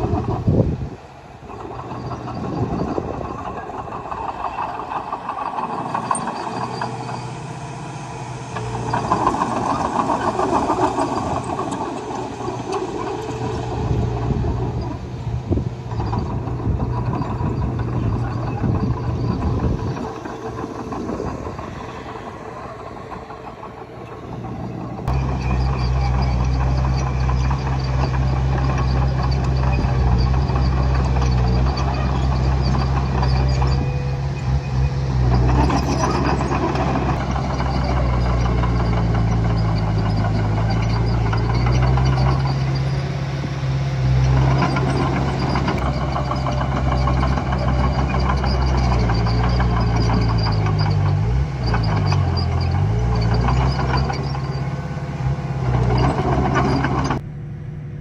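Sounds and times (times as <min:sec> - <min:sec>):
heavy machinery diesel engine: 0:00.0 - 0:58.0
rough loud machine noise: 0:00.0 - 0:58.0.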